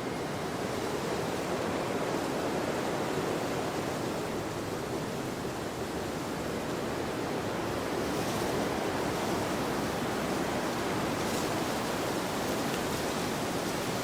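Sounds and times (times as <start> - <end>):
wind blowing through a field: 0.0 - 14.0.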